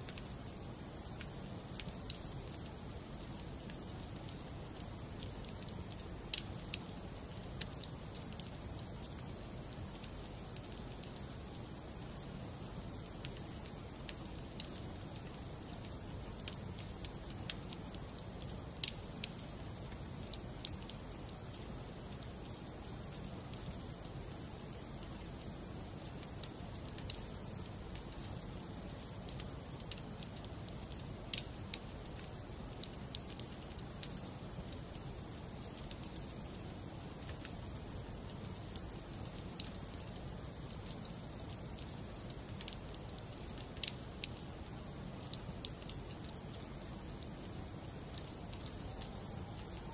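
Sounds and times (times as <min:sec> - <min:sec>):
logs crackling and popping: 0:00.0 - 0:49.9.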